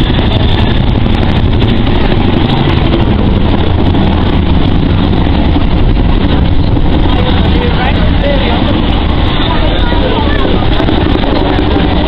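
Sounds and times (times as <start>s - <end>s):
helicopter rotor chop: 0.0s - 12.0s
turbine engine noise: 0.0s - 12.0s.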